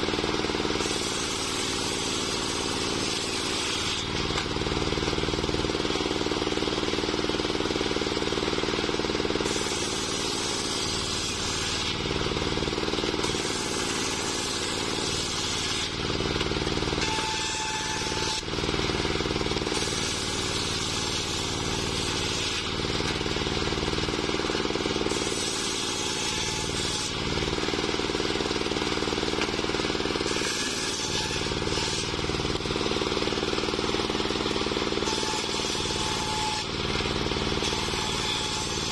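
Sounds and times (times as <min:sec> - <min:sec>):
circular saw cutting logs: 0:00.0 - 0:38.9.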